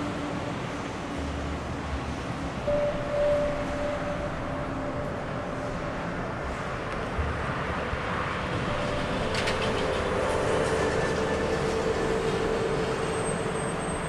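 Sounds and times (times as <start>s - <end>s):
bridge machinery rumbling: 1.6s - 14.0s
humming whine: 1.6s - 14.0s.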